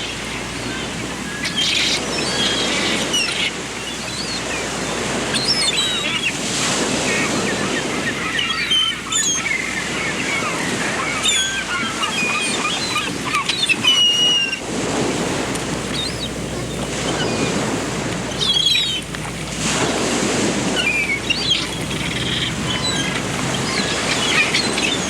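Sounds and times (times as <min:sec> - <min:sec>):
small birds chirping: 0:00.0 - 0:06.4, 0:07.0 - 0:14.6, 0:15.8 - 0:17.7, 0:18.3 - 0:19.3, 0:20.7 - 0:25.0
surf washing in: 0:00.0 - 0:25.0.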